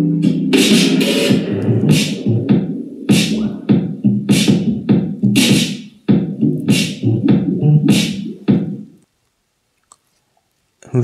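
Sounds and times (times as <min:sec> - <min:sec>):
song with punchy beat: 0:00.0 - 0:09.0.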